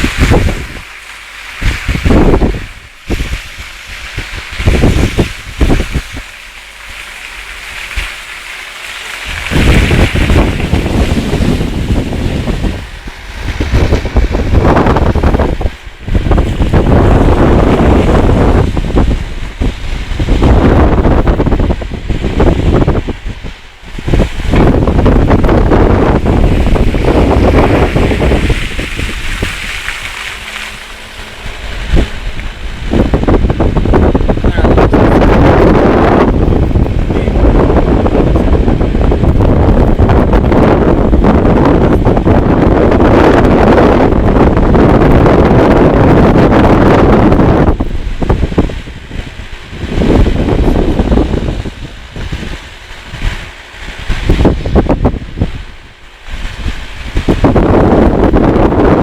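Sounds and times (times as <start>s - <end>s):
rushing wind and surf: 0.0s - 59.0s
wind buffeting microphone: 0.0s - 59.0s.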